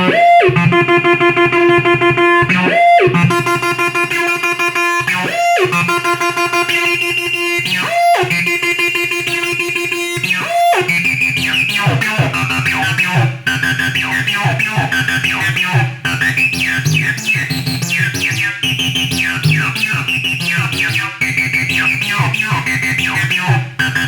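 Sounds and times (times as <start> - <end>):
squelchy bass synthesizer: 0.0 - 24.0.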